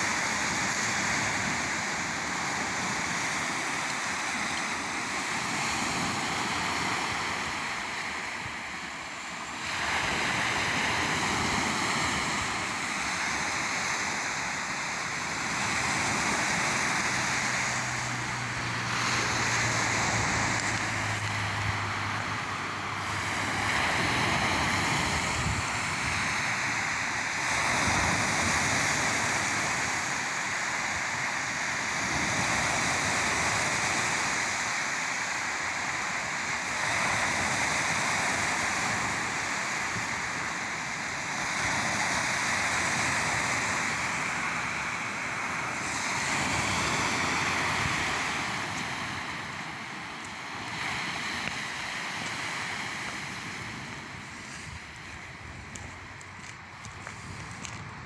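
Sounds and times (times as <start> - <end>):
sea surf washing onto beach: 0.0 - 58.0.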